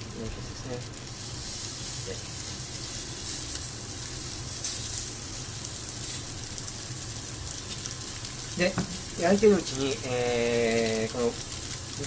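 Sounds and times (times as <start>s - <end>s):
fat crackling: 0.0s - 12.0s
pork sizzling in a frying pan: 0.0s - 12.0s.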